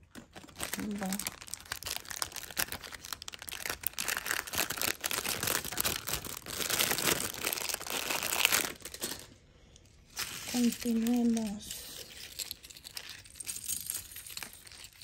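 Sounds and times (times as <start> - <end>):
plastic bag crinkling: 0.0 - 9.4, 10.1 - 15.0.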